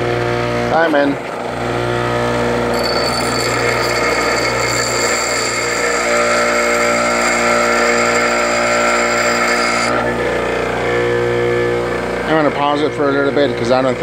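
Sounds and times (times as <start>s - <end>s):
motor hum: 0.0s - 14.0s
grinding wheel grinding metal: 0.8s - 12.2s.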